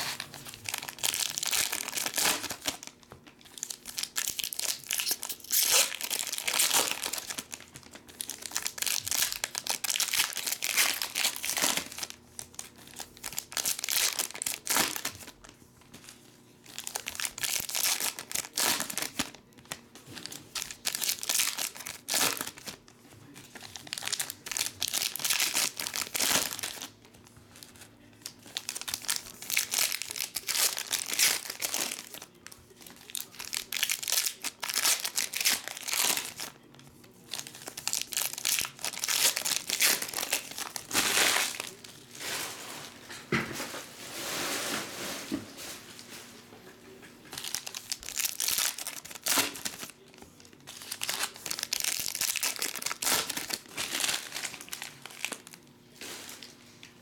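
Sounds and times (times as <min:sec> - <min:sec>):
foil wrappers crinkling and tearing: 0:00.0 - 0:43.1, 0:47.2 - 0:57.0.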